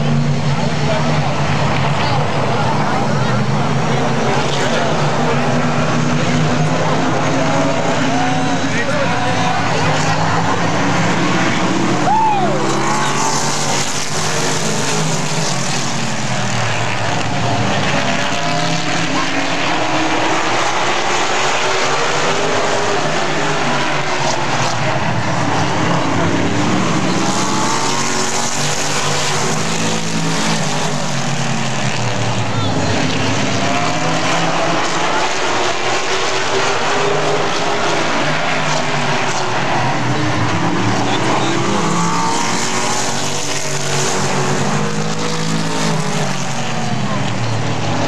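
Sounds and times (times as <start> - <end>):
stock car engines racing: 0.0 - 48.0.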